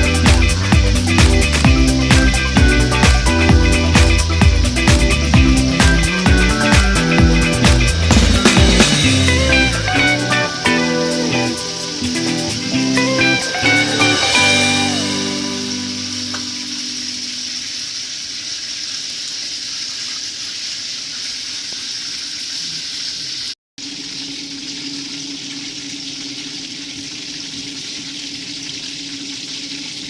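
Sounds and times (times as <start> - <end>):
food sizzling in oil: 3.7 - 30.0.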